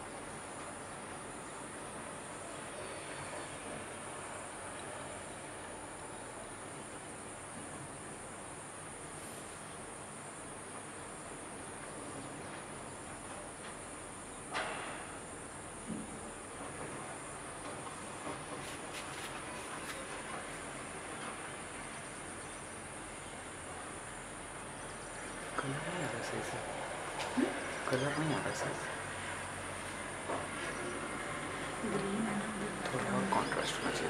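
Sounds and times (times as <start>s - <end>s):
insects trilling: 0.0s - 34.0s
outdoor hiss: 0.0s - 34.0s.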